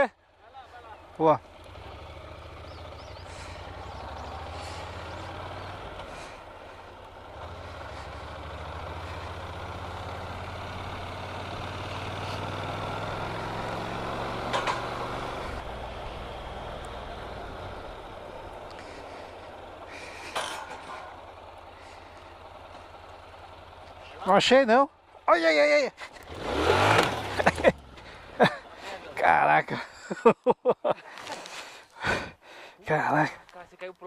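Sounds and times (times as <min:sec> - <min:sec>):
motorcycle engine running: 0:00.2 - 0:29.2.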